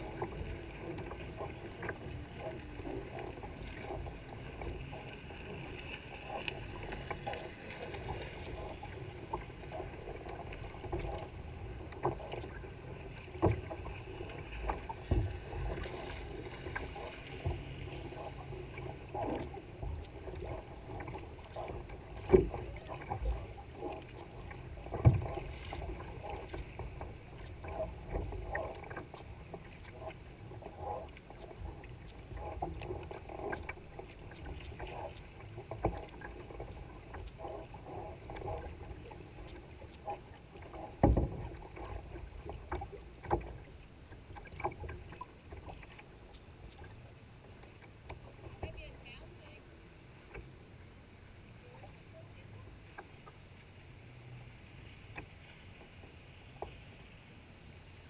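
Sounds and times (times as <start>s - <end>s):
paddle splashes and drips: 0.0s - 58.0s
water lapping against kayak hull: 0.0s - 58.0s.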